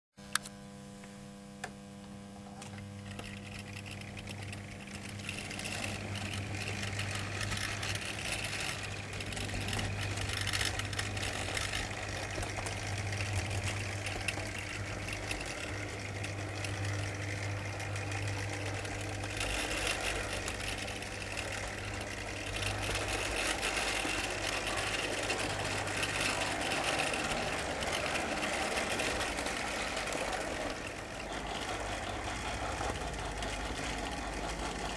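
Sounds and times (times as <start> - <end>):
low hum: 0.3 - 34.9
model train motor whirring: 2.6 - 34.9
wheels clicking over rail joints: 3.0 - 34.9.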